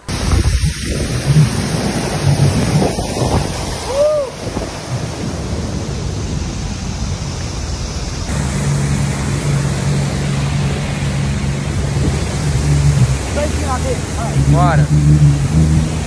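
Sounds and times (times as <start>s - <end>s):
wind buffeting microphone: 0.0s - 8.4s, 9.2s - 16.0s
low engine hum: 0.0s - 16.0s
rushing water: 0.0s - 16.0s.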